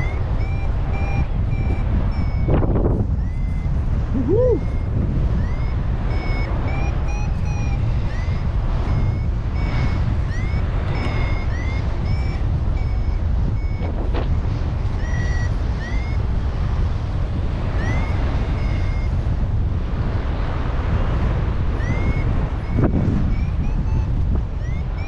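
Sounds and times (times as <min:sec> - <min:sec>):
variometer beeping chirps: 0:00.0 - 0:19.8, 0:21.7 - 0:25.0
wind rushing on microphone: 0:00.0 - 0:25.0.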